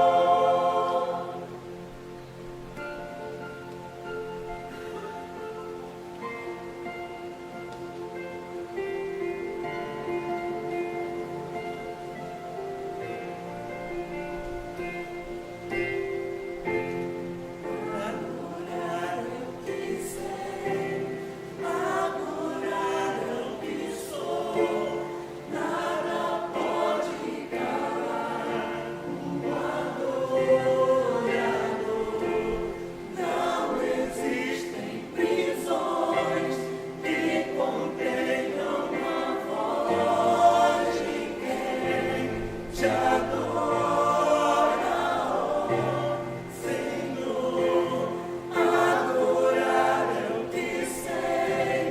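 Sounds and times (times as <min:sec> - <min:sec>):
church choir singing a hymn: 0:00.0 - 0:51.9.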